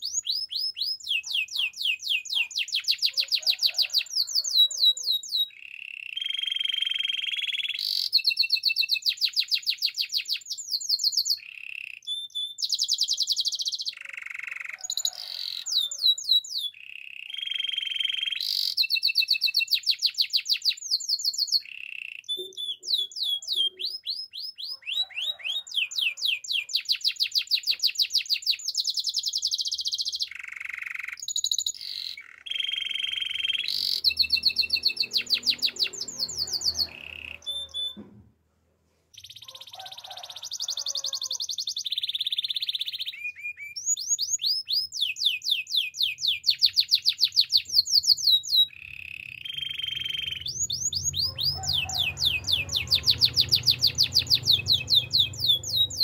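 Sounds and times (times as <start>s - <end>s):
canary singing trills: 0.0s - 38.1s, 39.1s - 56.0s.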